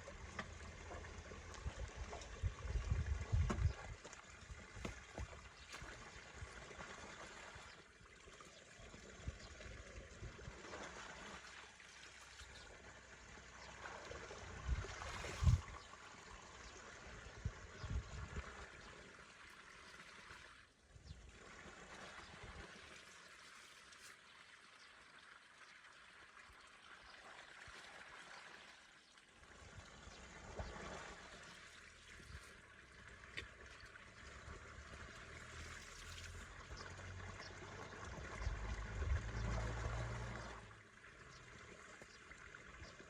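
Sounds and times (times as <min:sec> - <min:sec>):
water running and trickling: 0:00.0 - 0:43.0.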